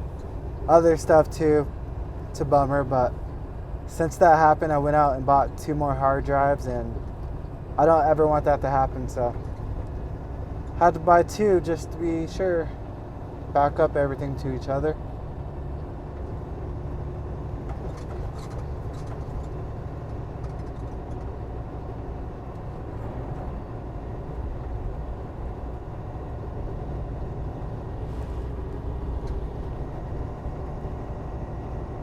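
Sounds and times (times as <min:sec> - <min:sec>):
diesel engine droning: 0:00.0 - 0:32.0
road noise inside cab: 0:00.0 - 0:32.0.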